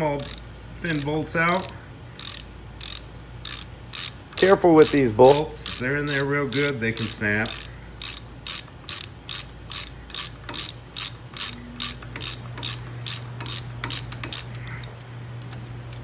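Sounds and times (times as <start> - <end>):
hand ratchet clicking: 0.0 - 16.0
steady low hum: 0.0 - 16.0.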